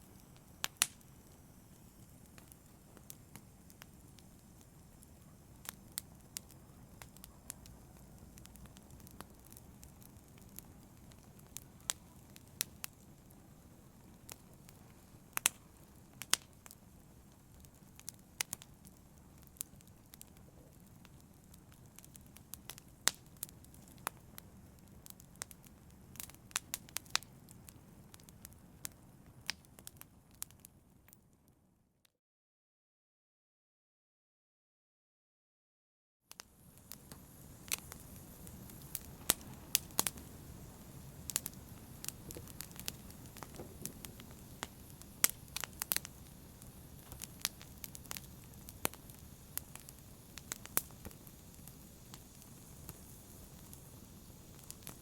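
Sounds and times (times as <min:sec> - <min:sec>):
low rumble of flames: 0:00.0 - 0:30.6, 0:36.4 - 0:55.0
wood fire crackling: 0:00.0 - 0:31.1, 0:36.3 - 0:55.0.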